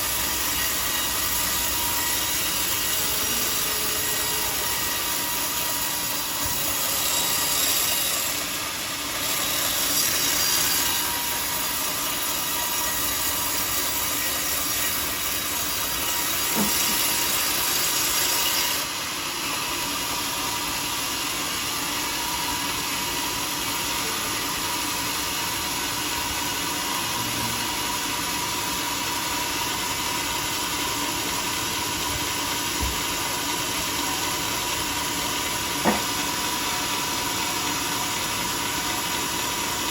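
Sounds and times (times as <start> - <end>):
saw blade cutting wood: 0.0 - 39.9
sawmill saw humming: 0.0 - 39.9.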